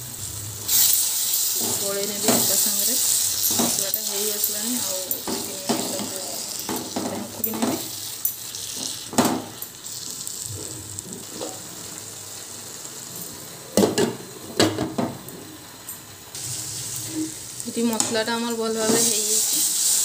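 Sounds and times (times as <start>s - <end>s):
spices sizzling in a frying pan: 0.0s - 20.0s.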